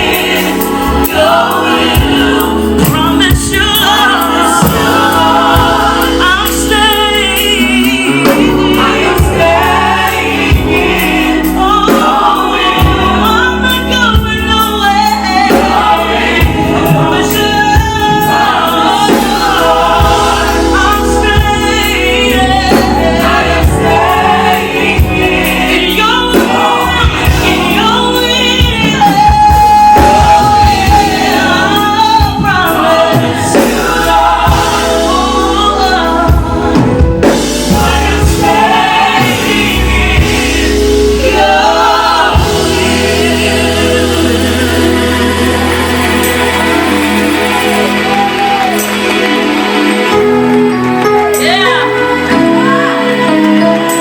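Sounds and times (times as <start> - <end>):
gospel choir with band: 0.0 - 54.0.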